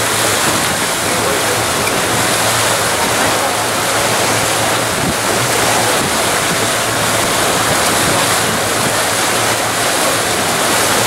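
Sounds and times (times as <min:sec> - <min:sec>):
boat wake water rushing: 0:00.0 - 0:11.0
low engine drone: 0:00.0 - 0:11.0.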